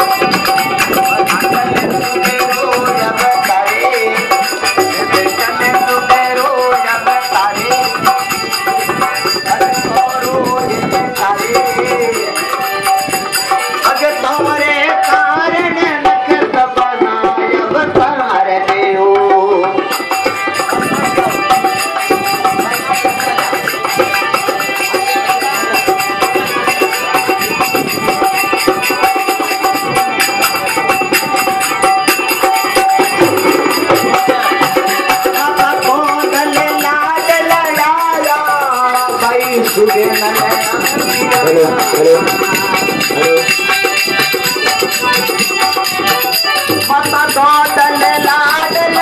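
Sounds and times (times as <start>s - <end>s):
hand drums beating: 0.0s - 49.0s
harmonium tone: 0.0s - 49.0s
person singing: 0.0s - 49.0s.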